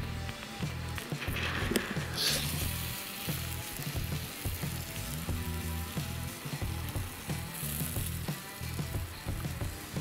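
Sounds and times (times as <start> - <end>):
music with steady beat: 0.0 - 10.0
candy sizzling on hot metal: 0.2 - 10.0.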